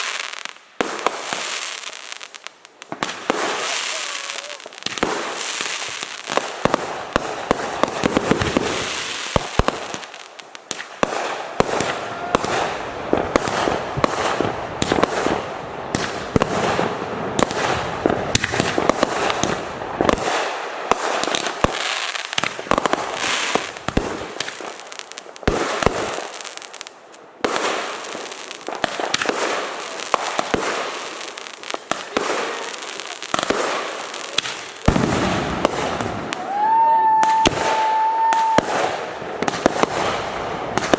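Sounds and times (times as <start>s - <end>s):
fireworks crackling and popping: 0.0s - 40.9s.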